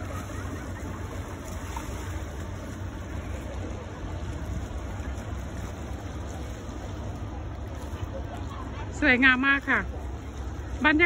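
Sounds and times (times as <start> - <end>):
low unsteady rumble: 0.0 - 11.0
rushing water and wind: 0.0 - 11.0.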